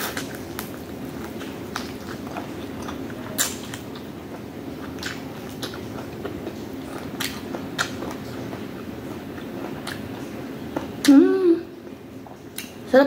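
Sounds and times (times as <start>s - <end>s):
person chewing food: 0.0s - 11.2s
low background hum: 0.0s - 13.0s.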